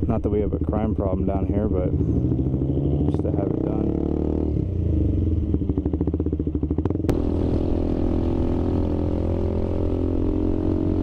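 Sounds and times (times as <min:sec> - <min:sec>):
motorcycle engine pulling away: 0:01.9 - 0:11.0.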